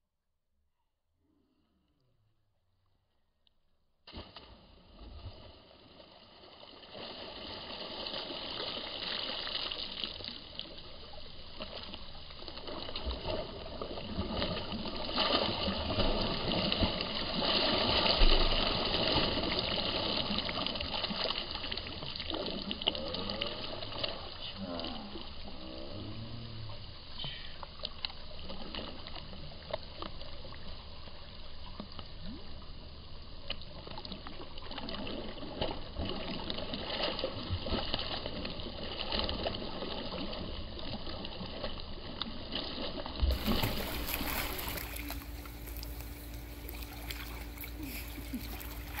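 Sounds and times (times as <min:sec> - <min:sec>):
water splashing in pool: 0:04.1 - 0:30.5, 0:33.4 - 0:49.0
steady low hum: 0:04.1 - 0:49.0.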